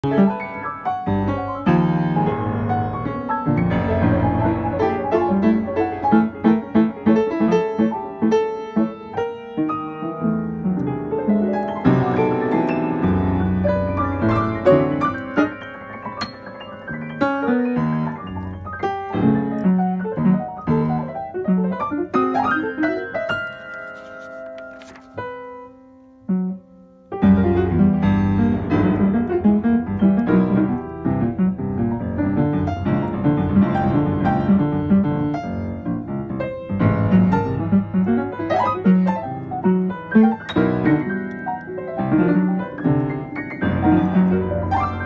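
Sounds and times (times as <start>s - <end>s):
classical piano playing: 0.0s - 45.0s.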